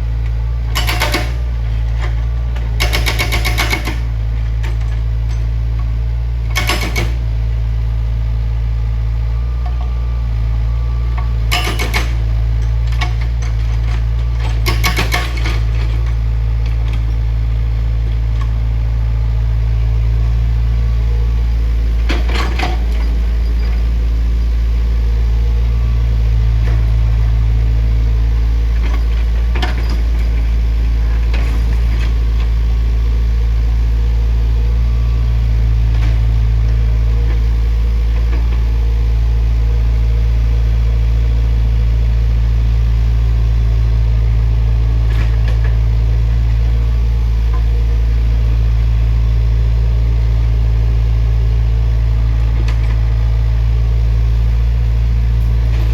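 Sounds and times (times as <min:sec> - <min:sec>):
heavy machine engine running: 0:00.0 - 0:55.9.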